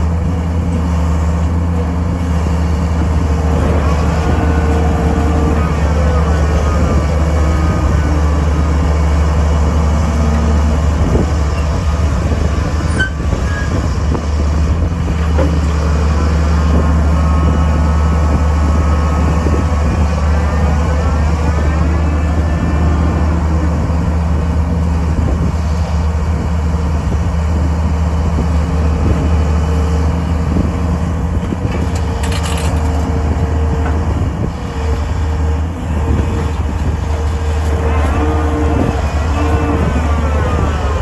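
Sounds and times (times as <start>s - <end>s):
diesel engine humming: 0.0s - 41.0s
hydraulic whine: 0.0s - 41.0s.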